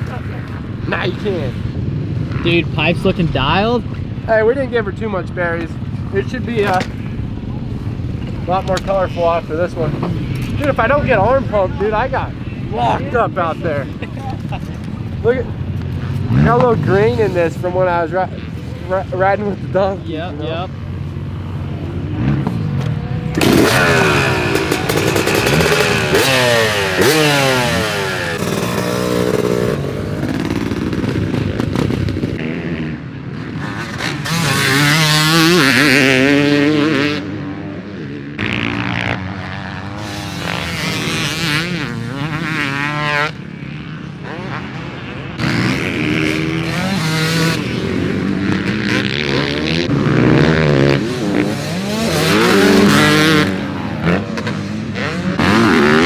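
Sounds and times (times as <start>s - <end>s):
two-stroke dirt bike revving: 0.0s - 56.0s.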